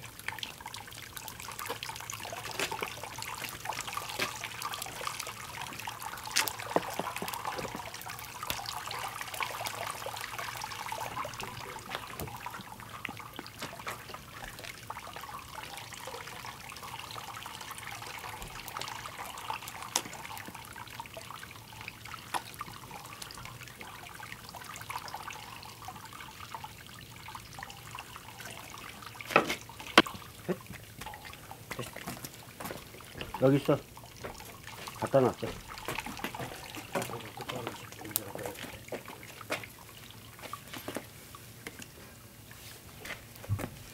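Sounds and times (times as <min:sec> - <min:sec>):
liquid trickling and dripping: 0:00.0 - 0:43.9.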